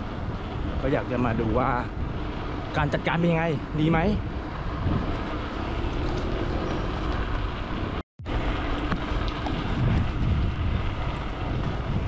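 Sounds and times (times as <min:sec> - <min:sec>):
road traffic noise: 0:00.0 - 0:12.0
wind rumbling on microphone: 0:00.0 - 0:12.0.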